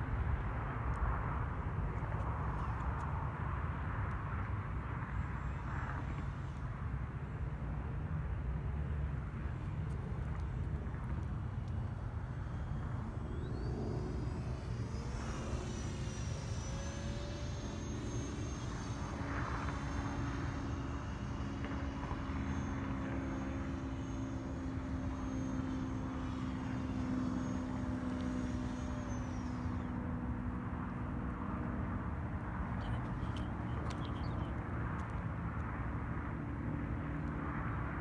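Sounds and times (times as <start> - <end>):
electric ducted fan whining: 1.5 - 37.2.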